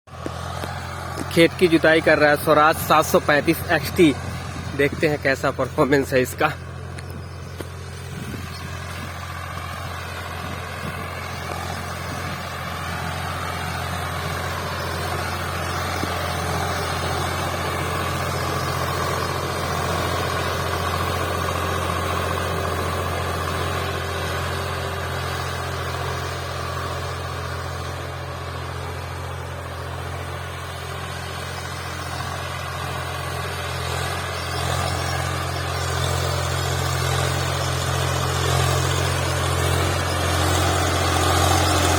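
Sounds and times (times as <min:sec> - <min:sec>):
tractor diesel engine droning: 0:00.1 - 0:41.9.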